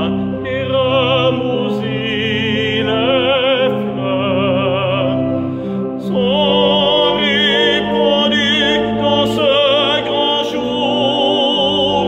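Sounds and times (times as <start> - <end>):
organ chords: 0.0 - 12.0
tenor singing with vibrato: 0.0 - 12.0.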